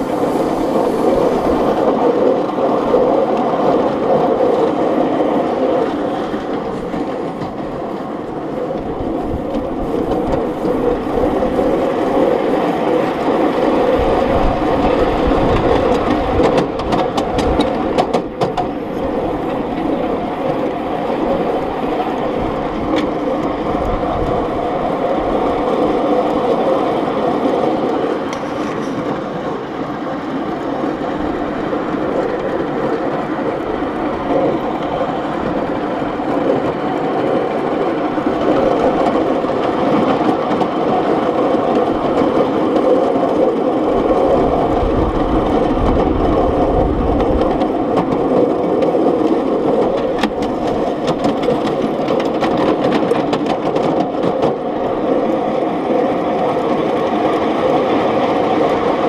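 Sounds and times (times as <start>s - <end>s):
miniature steam locomotive running: 0.0s - 59.0s.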